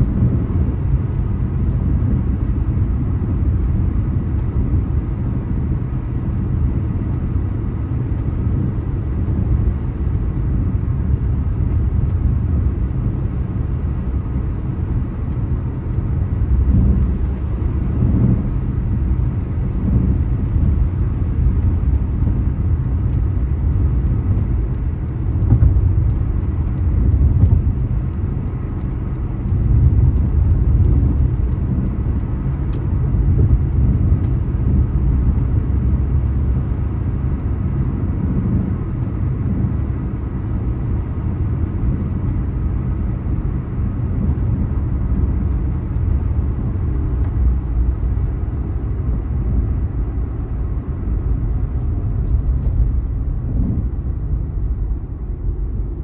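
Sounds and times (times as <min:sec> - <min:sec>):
car road rumble from inside: 0:00.0 - 0:56.0.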